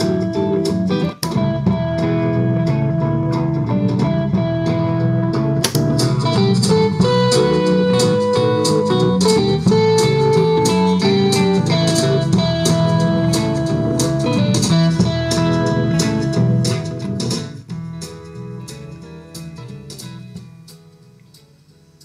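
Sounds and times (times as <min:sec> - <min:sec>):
blues guitar music from radio: 0:00.0 - 0:22.0.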